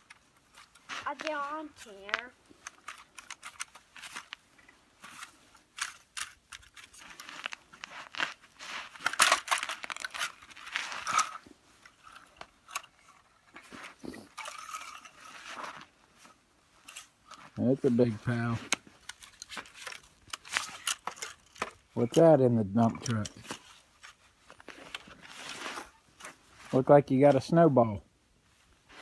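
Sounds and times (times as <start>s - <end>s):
small clicks and rustles: 0.0s - 17.6s, 18.3s - 26.8s
toy vehicles crunching through snow: 0.0s - 27.7s.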